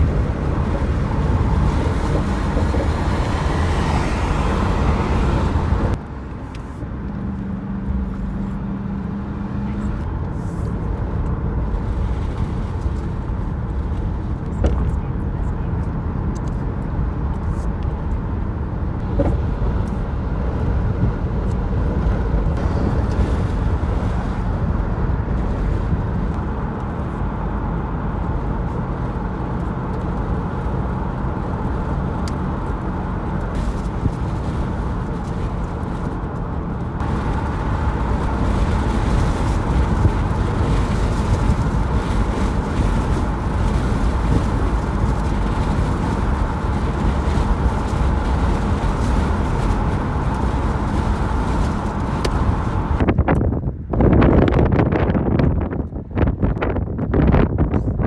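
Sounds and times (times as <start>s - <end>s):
moving car rumble: 0.0s - 58.0s.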